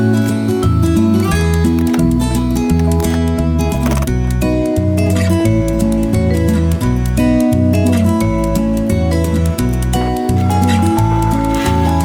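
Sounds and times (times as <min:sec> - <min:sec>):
upbeat music with plucked guitar: 0:00.0 - 0:12.0.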